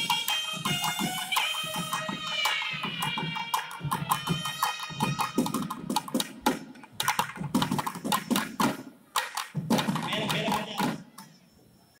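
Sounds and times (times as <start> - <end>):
drums playing sharp strokes: 0.0 - 11.0.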